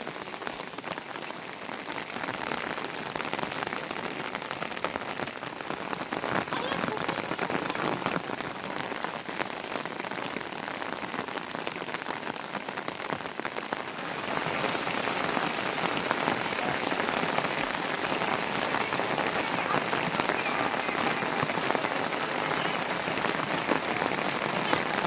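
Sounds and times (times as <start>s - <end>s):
heavy rain pattering: 0.0s - 25.0s.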